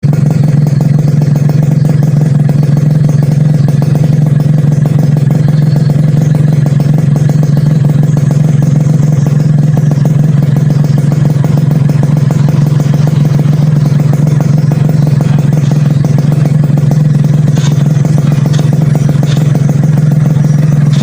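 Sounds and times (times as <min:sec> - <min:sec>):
motorcycle engine running steadily: 0:00.0 - 0:21.0.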